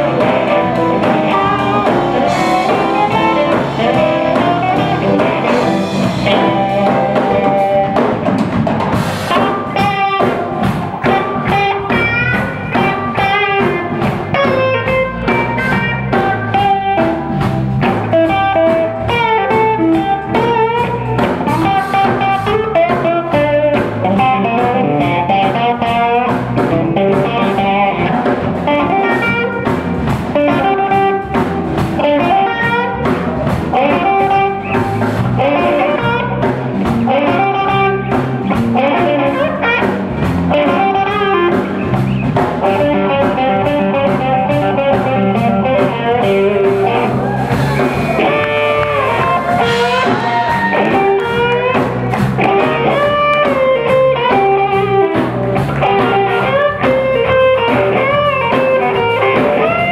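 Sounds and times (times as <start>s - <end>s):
drum kit: 0.0s - 59.9s
electric bass: 0.0s - 59.9s
electric guitar lead: 0.0s - 59.9s.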